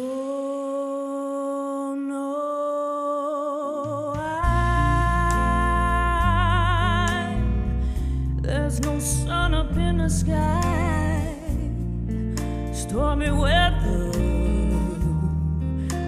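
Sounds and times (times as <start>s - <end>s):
woman singing wordless notes: 0.0s - 7.7s, 8.4s - 11.9s, 12.7s - 16.0s.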